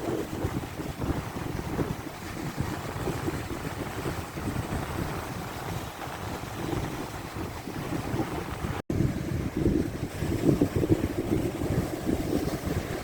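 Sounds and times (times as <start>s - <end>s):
lake waves rushing: 0.0s - 13.0s
wind buffeting microphone: 0.0s - 13.0s.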